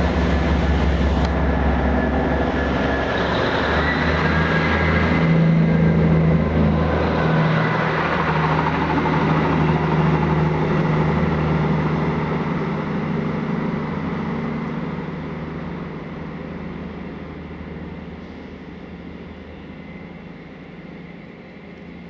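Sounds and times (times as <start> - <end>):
diesel locomotive engines running: 0.0 - 22.0.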